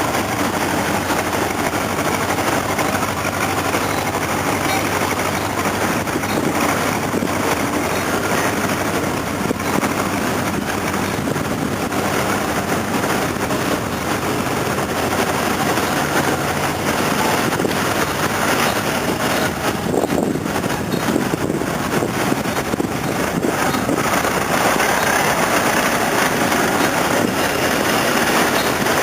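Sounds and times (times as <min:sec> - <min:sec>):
boat engine running: 0:00.0 - 0:29.0
wind on microphone: 0:00.0 - 0:29.0.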